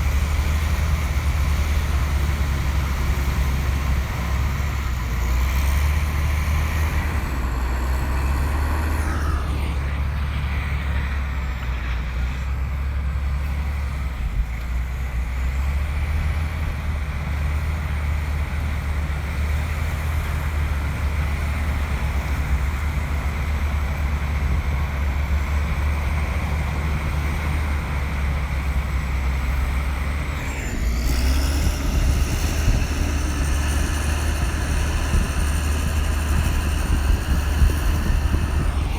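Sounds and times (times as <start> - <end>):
bulldozer diesel engine rumbling: 0.0 - 38.9.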